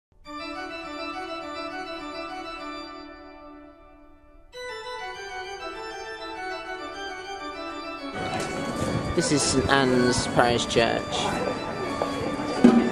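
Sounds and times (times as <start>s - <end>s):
organ chords: 0.2s - 12.9s.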